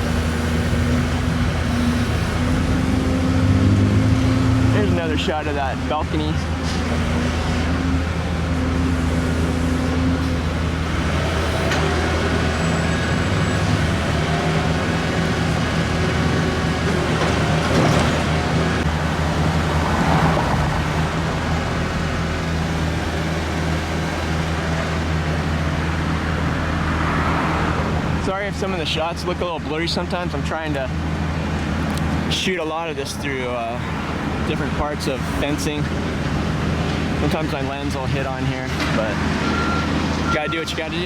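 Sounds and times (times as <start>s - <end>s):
large vehicle engine humming: 0.0s - 41.0s
road traffic: 0.0s - 41.0s.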